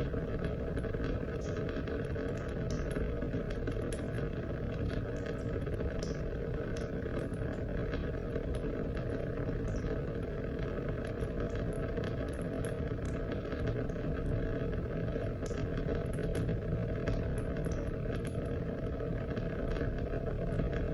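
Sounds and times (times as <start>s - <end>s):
raindrops ticking: 0.0s - 14.5s, 15.1s - 20.9s.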